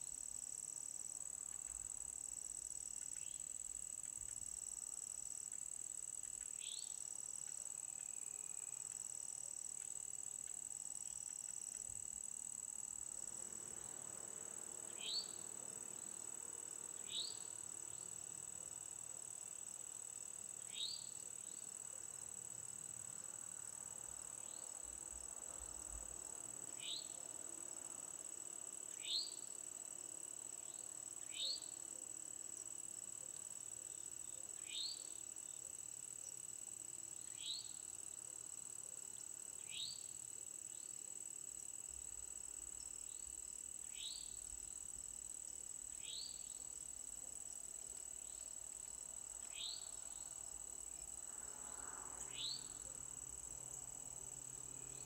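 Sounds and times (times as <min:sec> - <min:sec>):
insect drone: 0:00.0 - 0:55.0.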